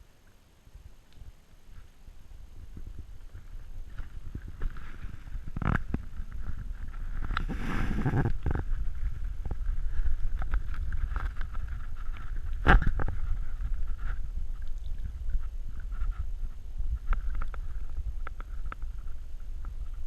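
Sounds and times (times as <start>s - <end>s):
low wind rumble: 0.0s - 20.0s.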